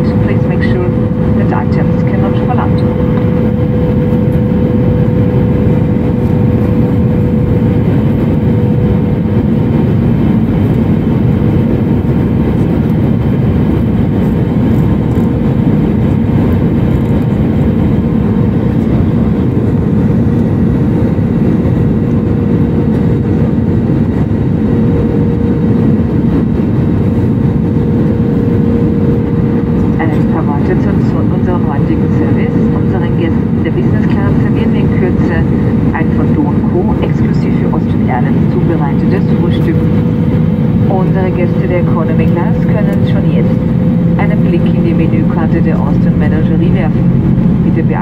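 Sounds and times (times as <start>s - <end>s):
jet engine cabin roar: 0.0s - 48.0s.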